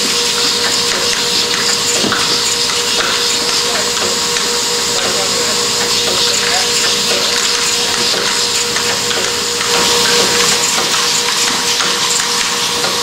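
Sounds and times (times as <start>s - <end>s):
machine hissing: 0.0s - 13.0s
machine hum: 0.0s - 13.0s.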